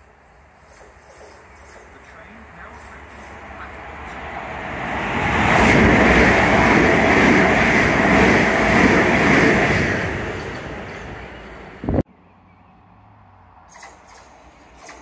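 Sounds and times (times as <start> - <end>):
passenger train passing at speed: 0.0 - 12.0.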